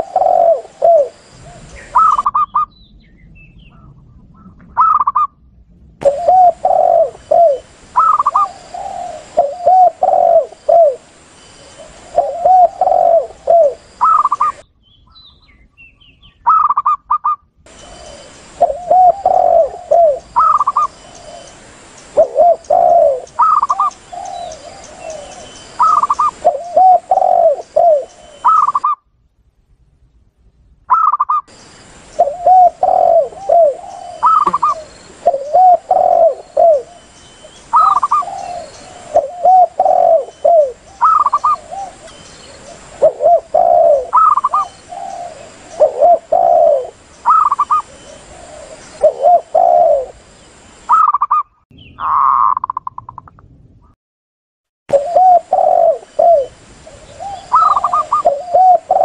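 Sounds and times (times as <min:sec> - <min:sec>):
doves cooing: 0:00.0 - 0:02.6, 0:03.8 - 0:05.3, 0:06.0 - 0:14.6, 0:16.5 - 0:29.0, 0:30.9 - 0:50.2, 0:52.0 - 0:53.4, 0:54.9 - 0:59.0
recording hiss: 0:00.0 - 0:52.8, 0:54.9 - 0:59.0.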